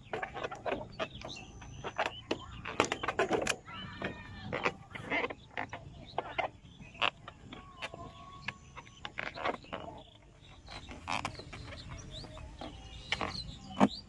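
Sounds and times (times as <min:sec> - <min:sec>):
rubber balloon squeaking: 0:00.0 - 0:14.0.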